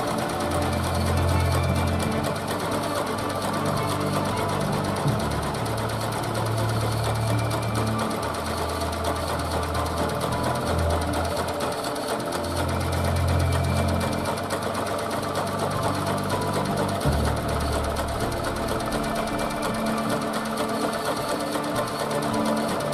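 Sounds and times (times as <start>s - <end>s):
small petrol engine running: 0.0s - 22.9s.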